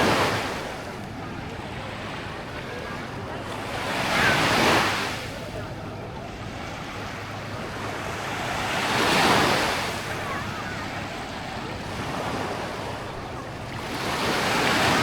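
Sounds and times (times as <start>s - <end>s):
small waves washing on sand: 2.9s - 15.0s.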